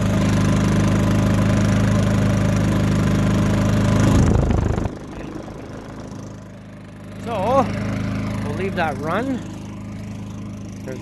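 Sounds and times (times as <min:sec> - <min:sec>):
generator engine hum: 0:00.0 - 0:11.0.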